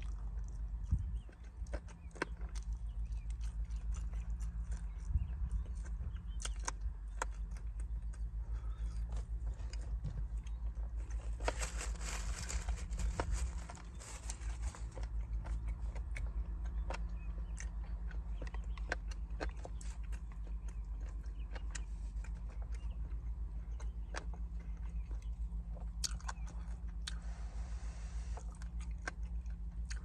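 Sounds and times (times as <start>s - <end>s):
mouth clicks and smacks chewing: 0.0s - 11.2s, 14.6s - 27.3s, 28.4s - 30.0s
low rumble: 0.0s - 30.0s.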